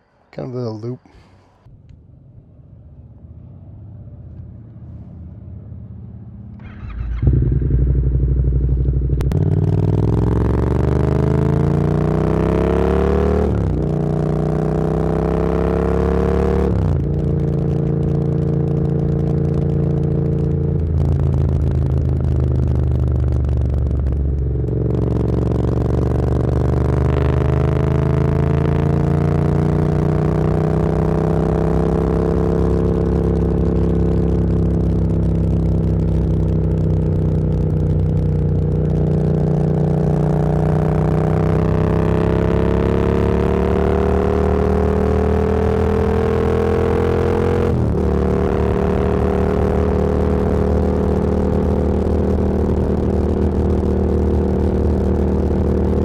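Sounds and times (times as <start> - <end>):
motorcycle engine shifting up: 6.0 - 56.0.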